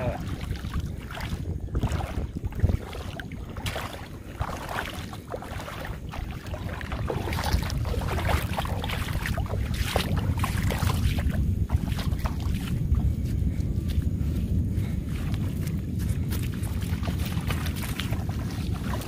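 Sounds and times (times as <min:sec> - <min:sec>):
water splashes and drips: 0:00.0 - 0:13.0, 0:16.2 - 0:19.0
footsteps wading through water: 0:00.0 - 0:19.0
wind buffeting microphone: 0:00.0 - 0:19.0.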